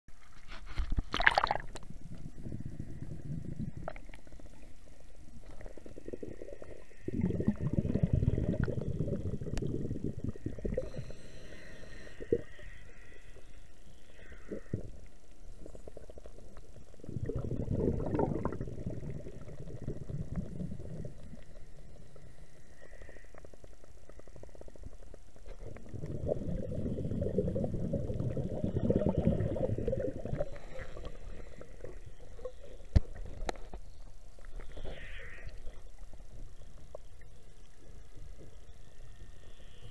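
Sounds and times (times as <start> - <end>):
underwater rumbling and gurgling: 0.6 - 39.9.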